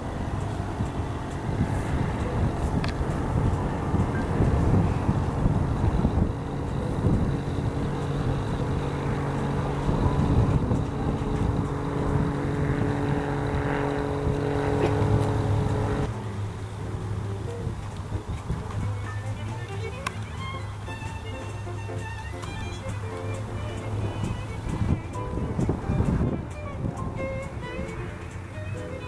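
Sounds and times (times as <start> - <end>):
aircraft engine and propeller droning: 0.0 - 29.0
wind rumbling on microphone: 0.0 - 29.0.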